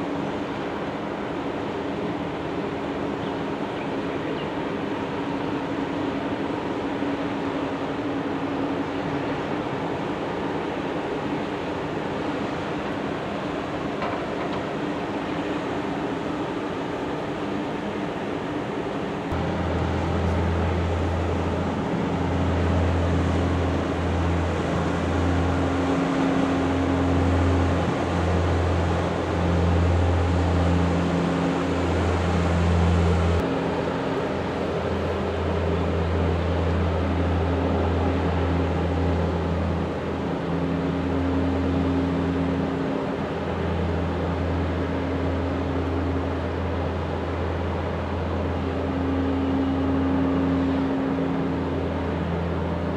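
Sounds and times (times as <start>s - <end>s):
ship diesel engines droning: 0.0s - 52.9s.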